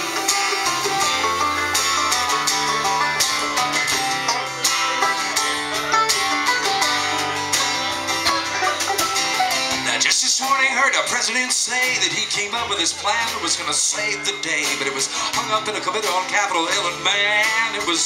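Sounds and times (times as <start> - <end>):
plucked guitars: 0.0 - 18.0
steady drum beat: 0.0 - 18.0.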